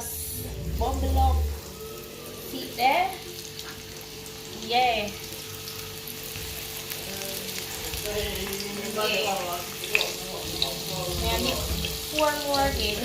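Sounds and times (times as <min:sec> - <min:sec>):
oil sizzling in deep fryer: 0:00.0 - 0:13.0.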